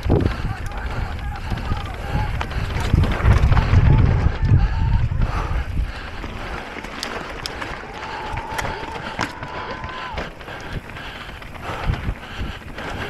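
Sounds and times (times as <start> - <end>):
bike rattling over rough ground: 0.0 - 13.0
wind buffeting microphone: 0.0 - 13.0.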